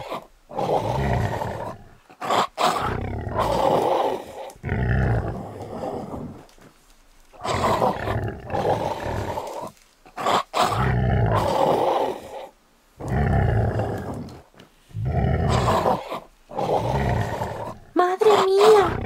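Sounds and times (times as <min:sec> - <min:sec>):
big cat roaring and growling: 0:00.0 - 0:06.5, 0:07.4 - 0:19.0.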